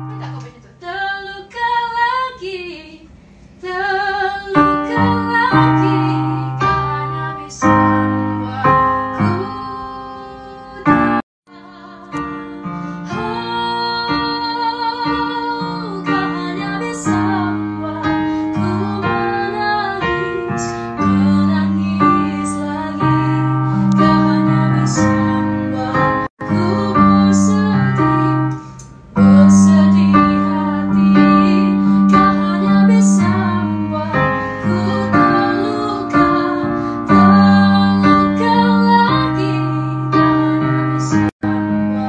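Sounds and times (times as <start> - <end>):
piano chords: 0.0 - 0.8, 3.7 - 42.0
woman singing with vibrato: 0.0 - 28.6, 29.2 - 42.0.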